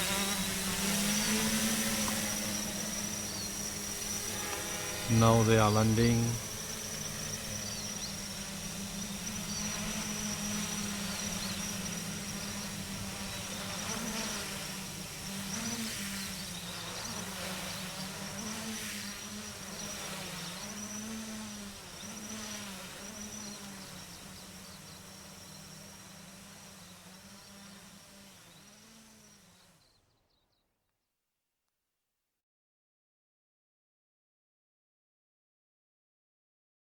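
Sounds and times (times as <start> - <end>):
drone propellers buzzing: 0.0 - 29.8.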